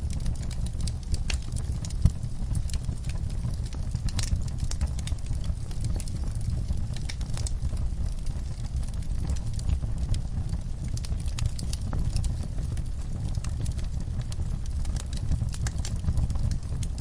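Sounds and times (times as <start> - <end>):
fire popping and snapping: 0.0 - 17.0
low fire rumble: 0.0 - 17.0
wood fire crackling: 0.0 - 17.0.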